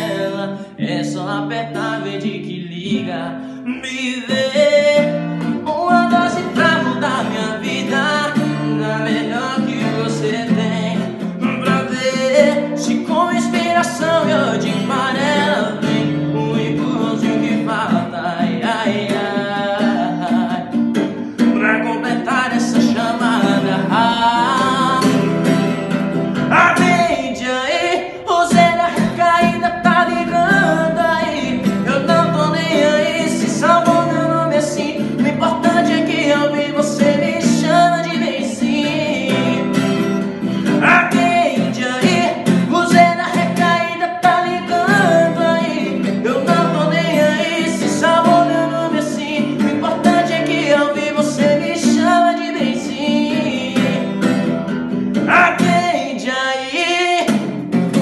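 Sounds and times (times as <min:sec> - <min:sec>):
man singing: 0:00.0 - 0:58.0
strummed acoustic guitar: 0:00.0 - 0:58.0.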